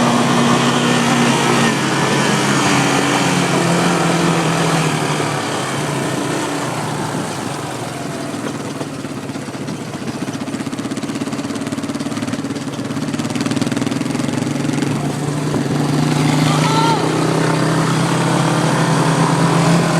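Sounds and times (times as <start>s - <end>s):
atv engine running: 0.0s - 19.9s.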